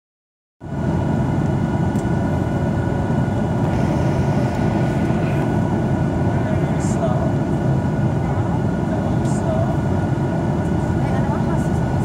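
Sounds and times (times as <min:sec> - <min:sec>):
airflow over fuselage: 0:00.6 - 0:12.0
faint steady whine: 0:00.6 - 0:12.0
jet engine rumble: 0:00.6 - 0:12.0.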